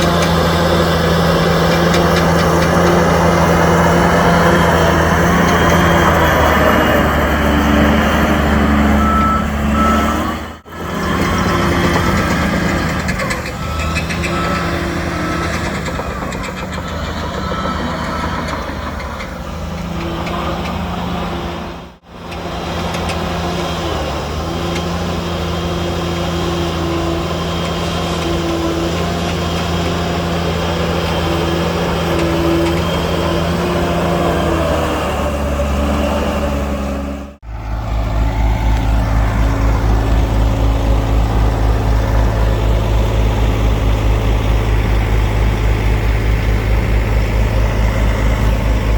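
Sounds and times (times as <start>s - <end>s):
deep engine throbbing: 0.0s - 48.9s
heavy diesel engines running: 0.0s - 48.9s.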